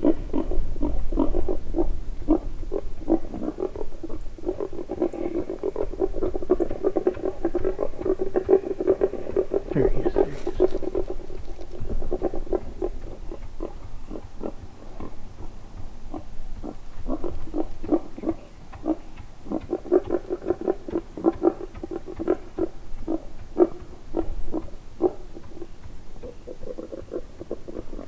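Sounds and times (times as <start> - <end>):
wild boar grunting: 0.0 - 28.0.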